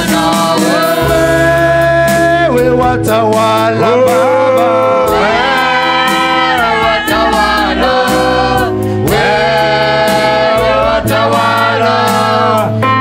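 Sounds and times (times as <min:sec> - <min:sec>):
backing beat and bass line: 0:00.0 - 0:13.0
group singing gospel: 0:00.0 - 0:13.0.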